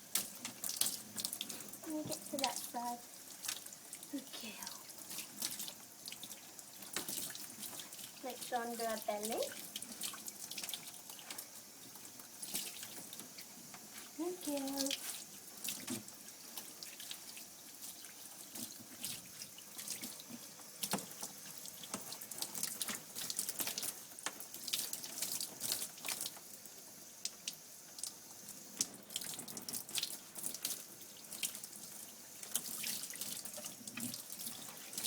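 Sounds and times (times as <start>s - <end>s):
shower hose water spraying: 0.0s - 35.0s
water splashes and drips: 0.0s - 35.0s.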